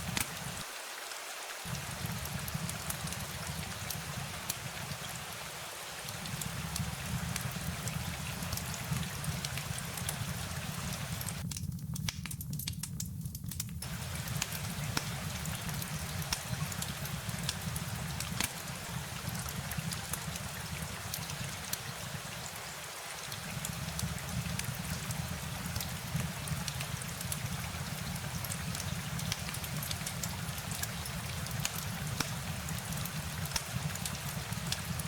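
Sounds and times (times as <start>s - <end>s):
steady rain hissing: 0.0s - 11.5s, 13.8s - 35.0s.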